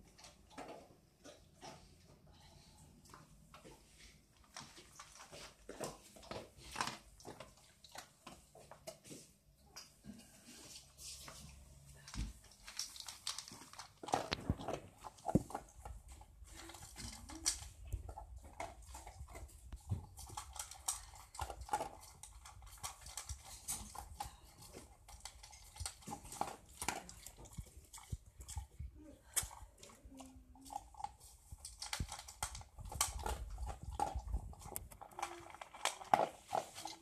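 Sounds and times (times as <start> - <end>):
dog chewing and crunching: 4.4 - 9.1, 12.0 - 37.0.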